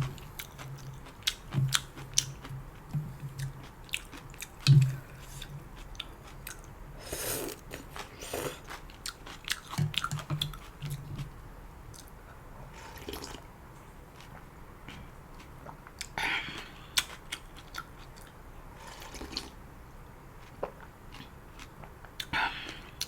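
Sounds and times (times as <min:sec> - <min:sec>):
person chewing noodles: 0:00.0 - 0:11.3, 0:12.8 - 0:13.4, 0:14.1 - 0:19.6, 0:20.4 - 0:23.0.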